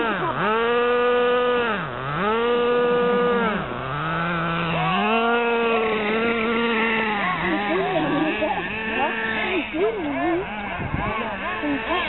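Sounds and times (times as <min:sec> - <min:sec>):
toy car motor buzzing at high revs: 0:00.0 - 0:12.0.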